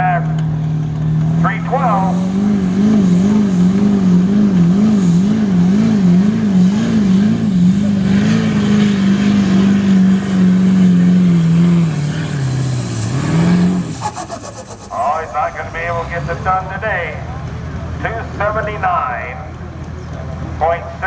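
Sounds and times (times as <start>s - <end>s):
diesel engine at full throttle: 0.0s - 21.0s.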